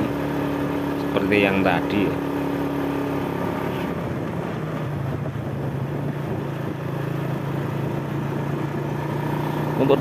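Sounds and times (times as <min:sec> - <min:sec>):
road and wind noise: 0:00.0 - 0:10.0
vehicle engine running steadily: 0:00.0 - 0:10.0.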